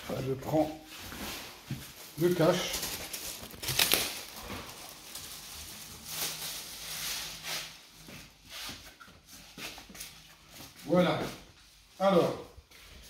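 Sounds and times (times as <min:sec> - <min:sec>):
plastic wrapping rustling: 0:00.1 - 0:11.2.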